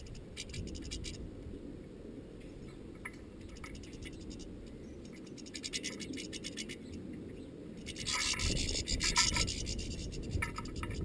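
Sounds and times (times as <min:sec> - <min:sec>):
birds fluttering and scrabbling: 0:00.0 - 0:01.2, 0:02.5 - 0:07.1, 0:07.8 - 0:11.0.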